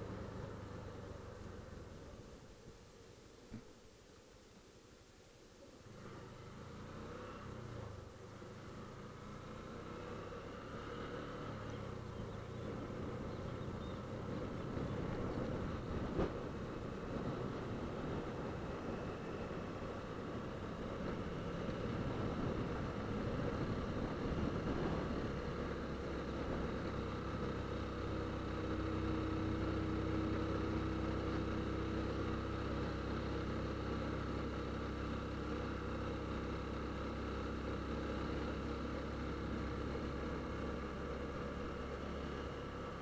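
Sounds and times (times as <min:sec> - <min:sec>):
motorcycle engine running: 0:06.2 - 0:43.0.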